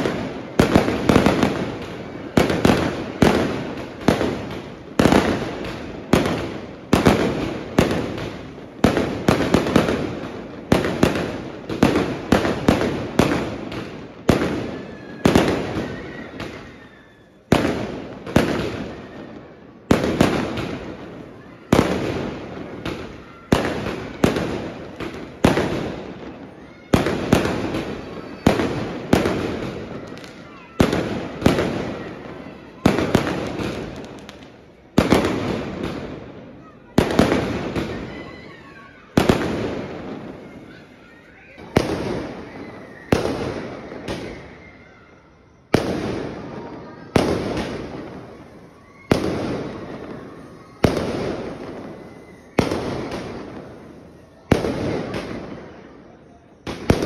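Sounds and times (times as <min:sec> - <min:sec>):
fireworks bangs with echo: 0:00.0 - 0:57.0.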